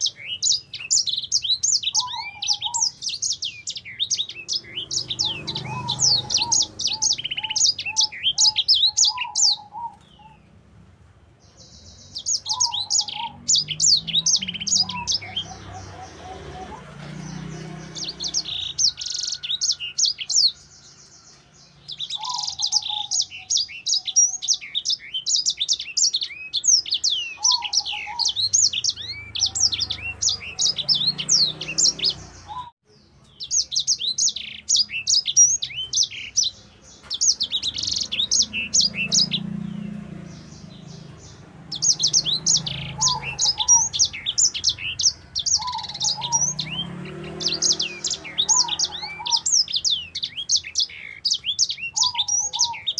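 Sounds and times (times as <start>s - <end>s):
bird singing chattering warble: 0.0s - 10.7s, 11.4s - 52.9s.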